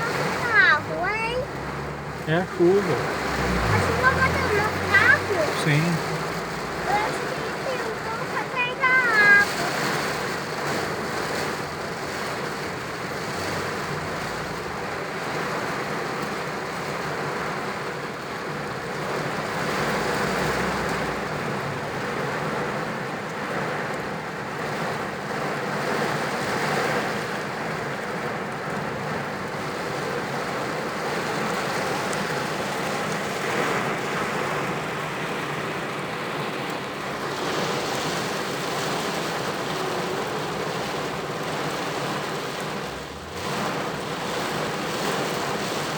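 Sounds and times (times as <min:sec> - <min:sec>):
rain on a car body: 0:00.0 - 0:45.9.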